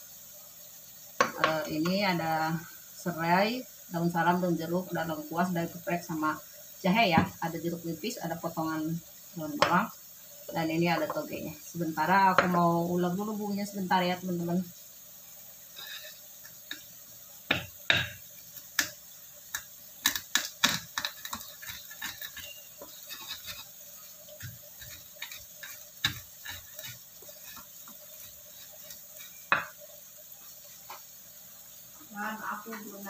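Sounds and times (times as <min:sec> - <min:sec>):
frying sizzle in oil: 0:00.0 - 0:33.0.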